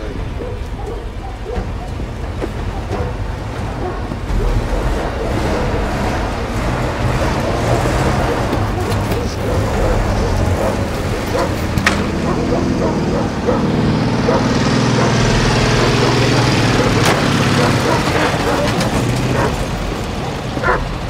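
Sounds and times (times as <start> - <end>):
vintage car engine running: 0.0 - 21.0.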